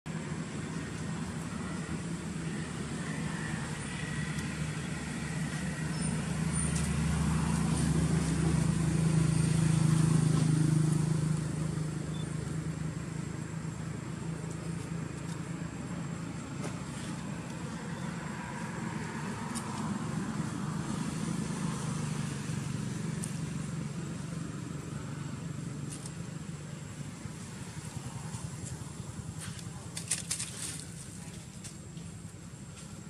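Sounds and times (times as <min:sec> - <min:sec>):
vehicle engine passing by: 0:00.1 - 0:33.0.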